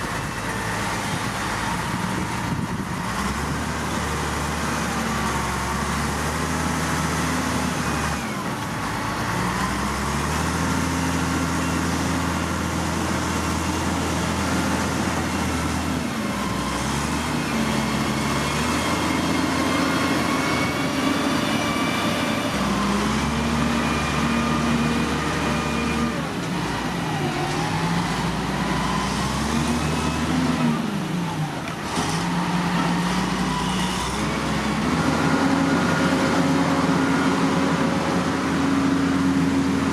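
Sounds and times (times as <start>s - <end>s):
heavy machinery diesel engines revving: 0.0s - 39.9s.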